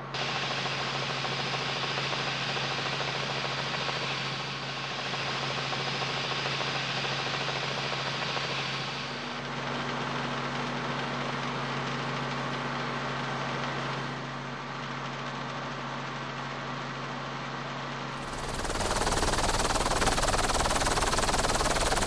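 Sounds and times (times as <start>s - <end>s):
helicopter engine and rotor drone: 0.0s - 22.0s.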